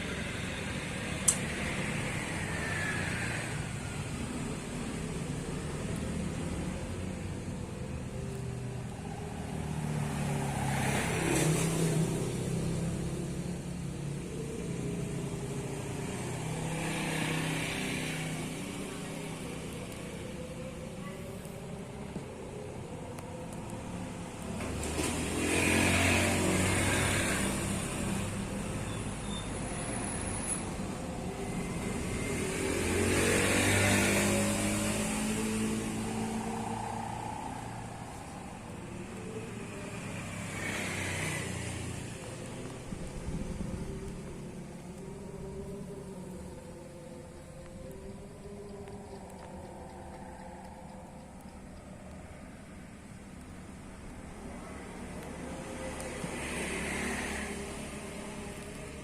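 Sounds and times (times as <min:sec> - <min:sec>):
quieter vehicle passing: 0:00.0 - 0:59.0
vehicle passing by: 0:00.0 - 0:59.0.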